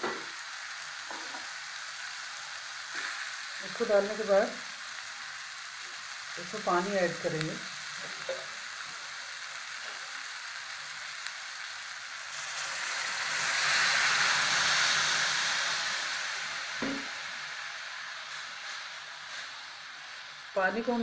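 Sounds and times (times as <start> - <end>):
water poured into hot pan: 0.0 - 20.6
vegetables sizzling in a pan: 0.0 - 21.0.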